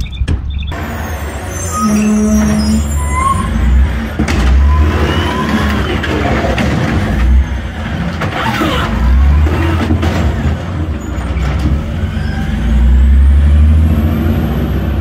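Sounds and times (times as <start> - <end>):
garbage truck diesel engine rumbling: 0.7 - 15.0
hydraulic arm lifting bin: 0.8 - 13.4.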